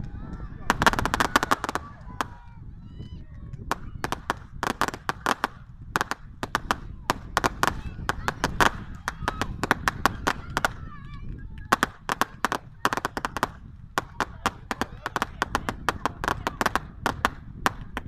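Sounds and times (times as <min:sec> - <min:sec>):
fireworks banging and crackling: 0:00.5 - 0:02.6, 0:03.5 - 0:18.0.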